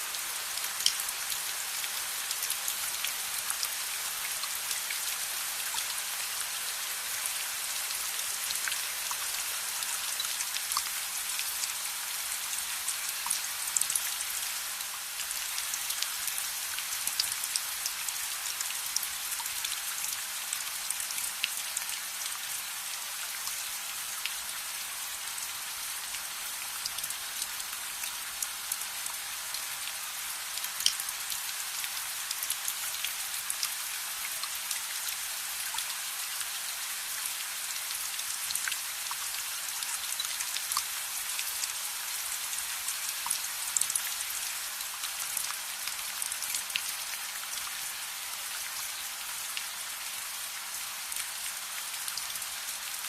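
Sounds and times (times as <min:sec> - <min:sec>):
steady rain with drop ticks: 0:00.0 - 0:53.0.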